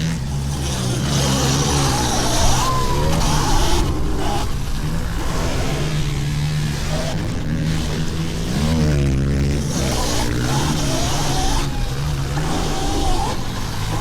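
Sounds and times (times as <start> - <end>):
pit bike engines running: 0.0 - 14.0.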